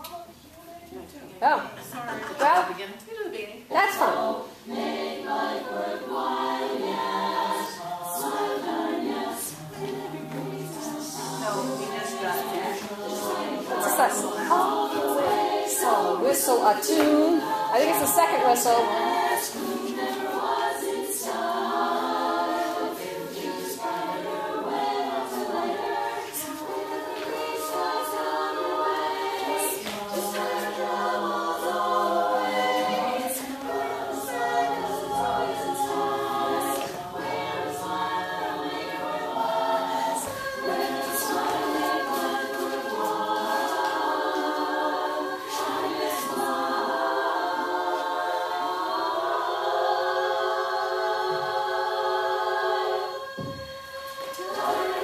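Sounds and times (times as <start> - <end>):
choir singing: 3.6 - 55.0.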